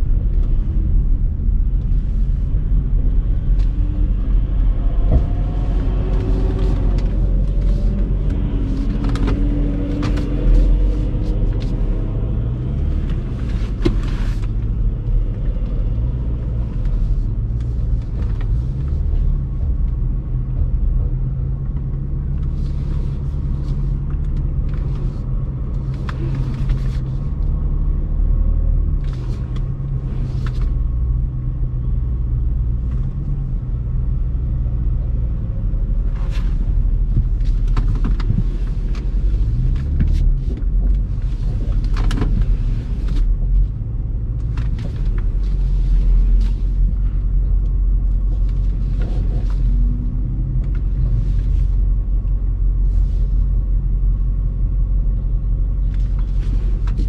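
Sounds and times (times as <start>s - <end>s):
car cabin engine and tyre rumble: 0.0s - 57.0s.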